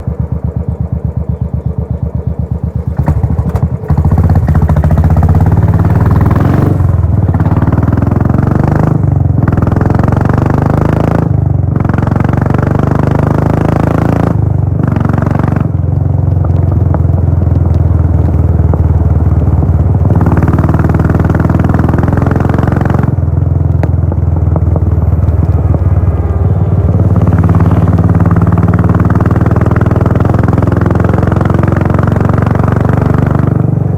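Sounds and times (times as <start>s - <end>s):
motorcycle engine: 0.0s - 33.9s.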